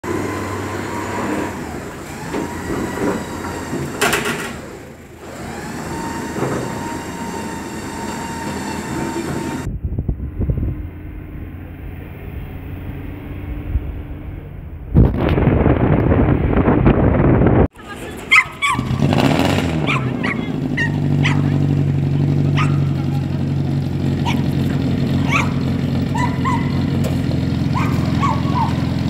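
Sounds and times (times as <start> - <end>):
car engine running: 0.0 - 16.8, 17.8 - 29.0
road traffic rumble: 0.0 - 29.0.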